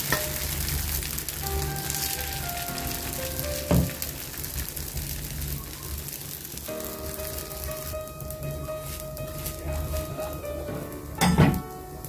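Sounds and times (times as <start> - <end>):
batter sizzling on a griddle: 0.0 - 12.0.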